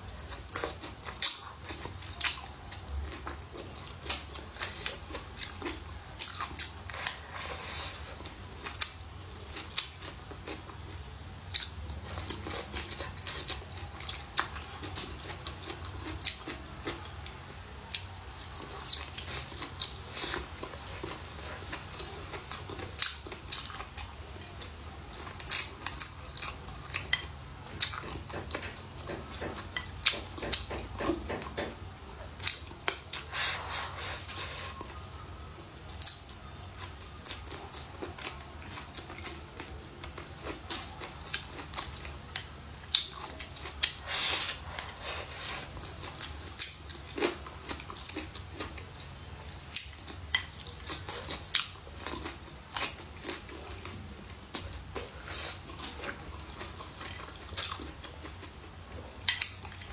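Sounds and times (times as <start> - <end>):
person chewing wet food: 0.0 - 59.9.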